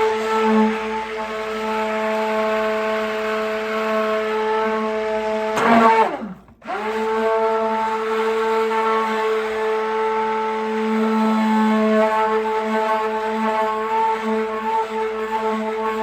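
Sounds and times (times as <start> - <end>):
stick blender whining: 0.0 - 16.0.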